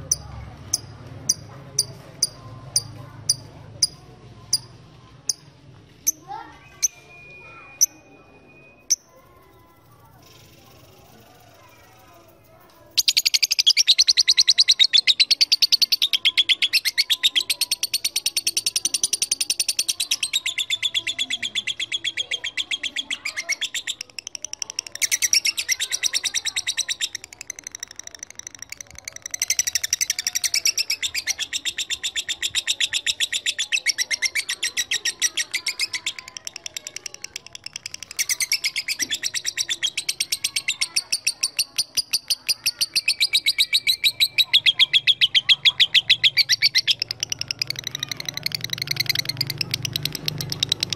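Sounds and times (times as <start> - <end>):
lovebird chattering trill: 0.0 - 6.2, 12.9 - 50.9.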